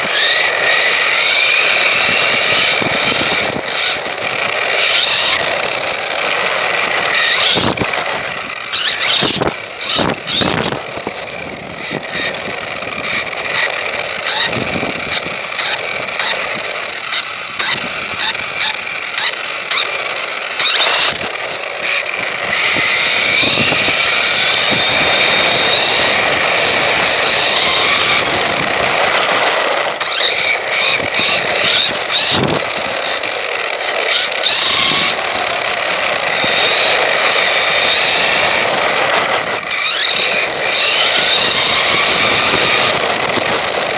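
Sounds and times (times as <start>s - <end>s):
high-pitched motor whining: 0.0s - 43.9s.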